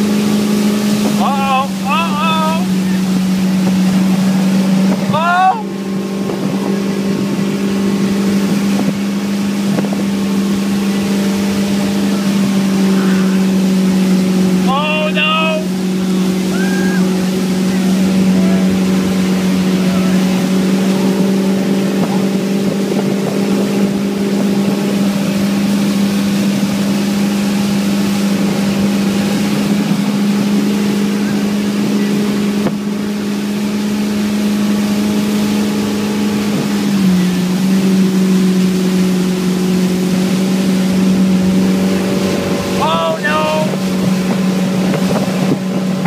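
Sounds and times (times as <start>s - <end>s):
churning wake and spray: 0.0s - 46.0s
motorboat engine drone: 0.0s - 46.0s.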